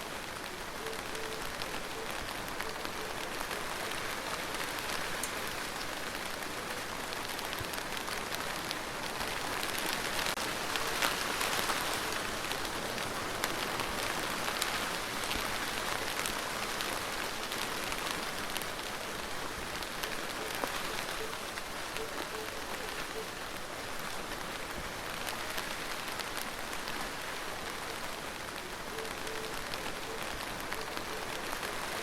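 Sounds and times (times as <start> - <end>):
rain falling on a surface: 0.0 - 32.0.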